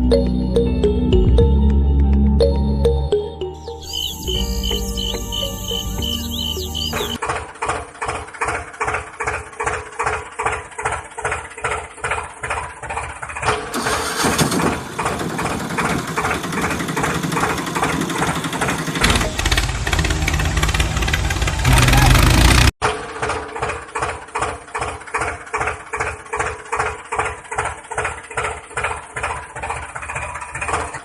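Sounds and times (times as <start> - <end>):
engine chugging: 3.8 - 31.0.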